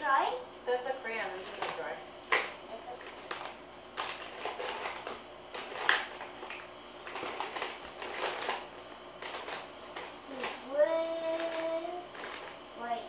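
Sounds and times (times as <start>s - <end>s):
rummaging in plastic bucket: 1.4s - 10.6s, 11.2s - 12.6s.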